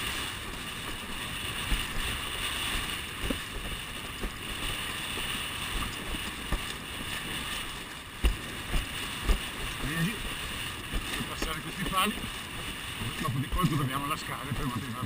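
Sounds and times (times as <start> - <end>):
board slapping water: 0.0 - 15.0
water rushing: 0.0 - 15.0
wind buffeting microphone: 0.0 - 15.0.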